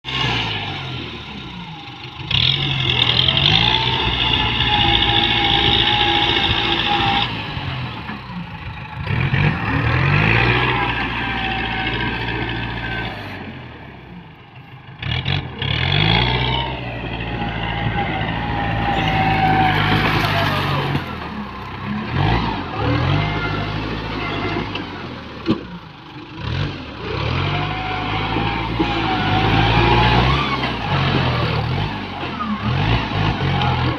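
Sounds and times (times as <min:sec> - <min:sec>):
tractor engine revving: 0:00.0 - 0:33.9.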